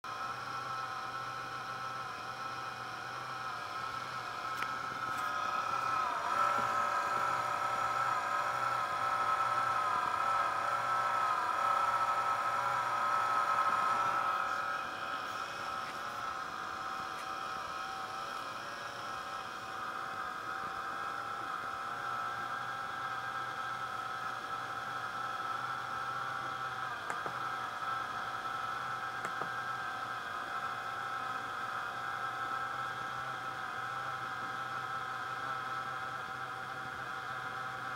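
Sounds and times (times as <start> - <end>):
laptop cooling fan whining: 0.0 - 37.9.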